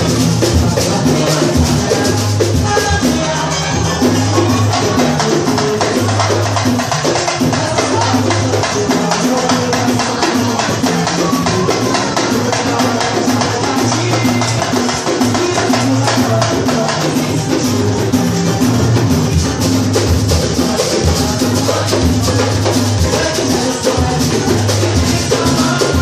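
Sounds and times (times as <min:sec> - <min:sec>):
low bass drums ringing: 0:00.0 - 0:26.0
smaller drums and percussion: 0:00.0 - 0:26.0.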